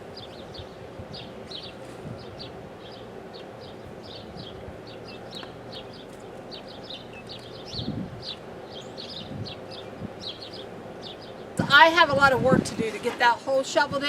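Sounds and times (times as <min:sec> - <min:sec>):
small birds chirping: 0:00.0 - 0:14.0
soft low bumps: 0:00.0 - 0:14.0.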